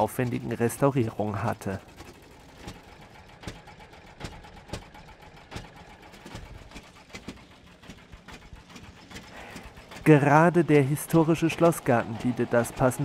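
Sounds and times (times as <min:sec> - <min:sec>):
old engine firing slowly: 0:00.0 - 0:13.0.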